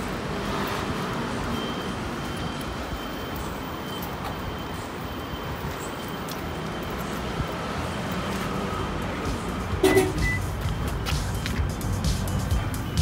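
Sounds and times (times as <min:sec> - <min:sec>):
outdoor traffic noise: 0:00.0 - 0:13.0.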